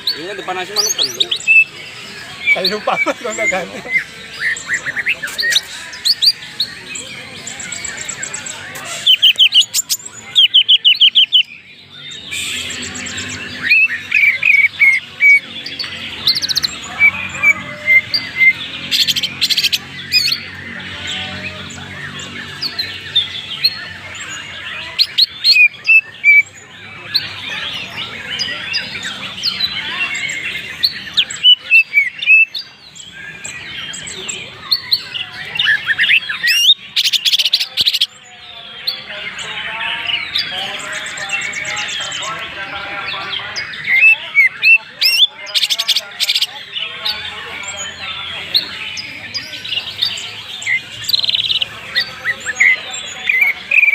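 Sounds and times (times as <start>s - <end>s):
bird singing chirps and trills: 0.0s - 53.9s.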